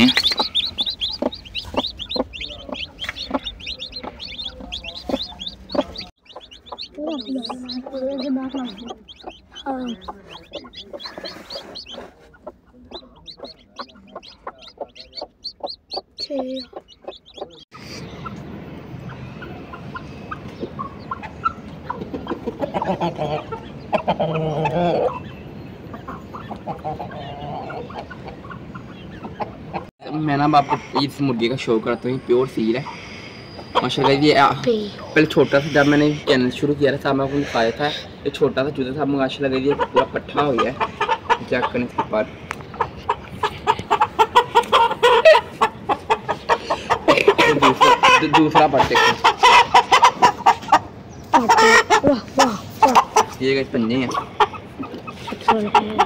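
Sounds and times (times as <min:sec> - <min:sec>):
hen clucking: 0:00.0 - 0:18.4, 0:19.0 - 0:56.0
chicks peeping: 0:00.0 - 0:56.0.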